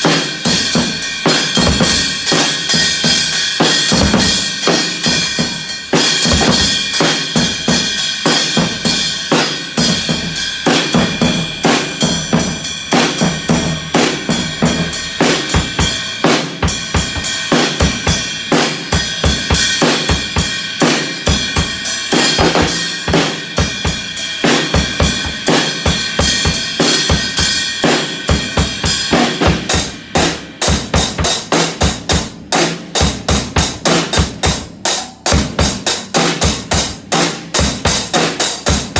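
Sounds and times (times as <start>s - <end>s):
fast drum hits: 0.0s - 38.9s.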